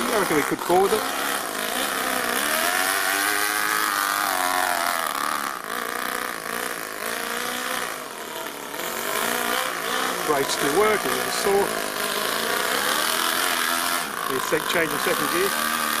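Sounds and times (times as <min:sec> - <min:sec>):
model engine running: 0:00.0 - 0:16.0.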